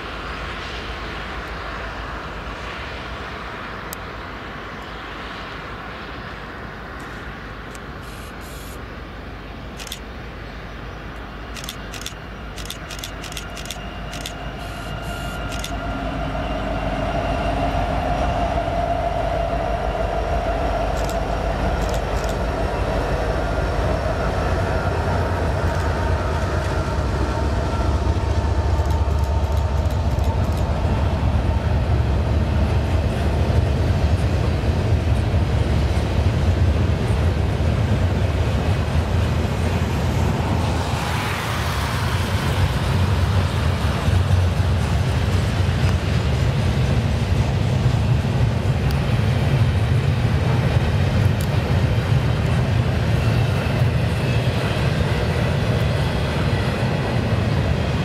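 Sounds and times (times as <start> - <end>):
diesel locomotives whining: 0.0 - 58.0
freight cars rumbling: 0.0 - 58.0.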